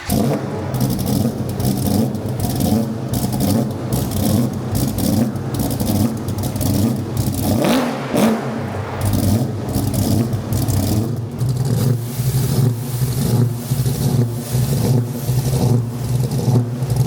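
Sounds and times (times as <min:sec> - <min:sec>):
engine idling with lumpy beat: 0:00.0 - 0:17.0.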